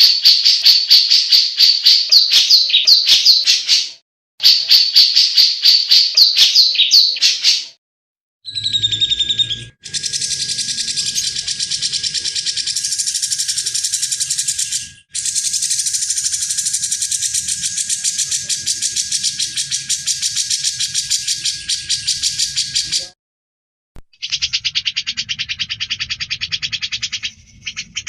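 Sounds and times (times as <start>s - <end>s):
bird rattling trill: 0.0s - 7.6s, 8.5s - 23.0s, 24.2s - 28.0s.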